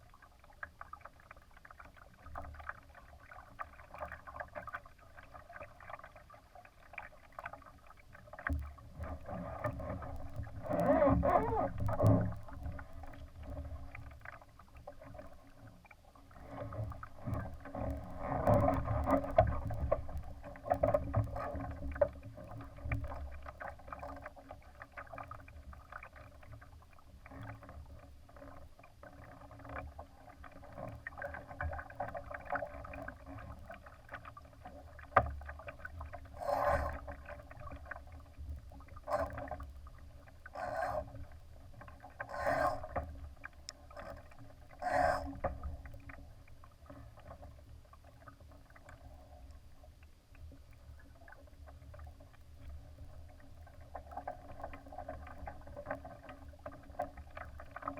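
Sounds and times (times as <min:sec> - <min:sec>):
water rushing against a hull: 0:00.0 - 0:57.9.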